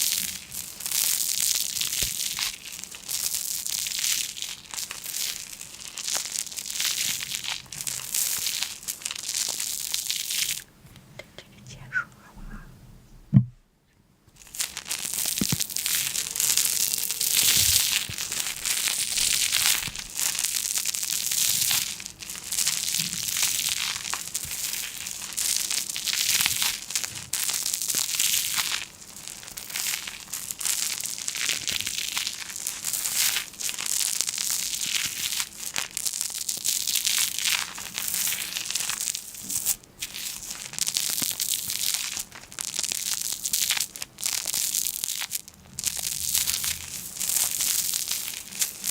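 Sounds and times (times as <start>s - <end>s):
crisp material crackling: 0.0s - 10.7s, 14.4s - 48.9s.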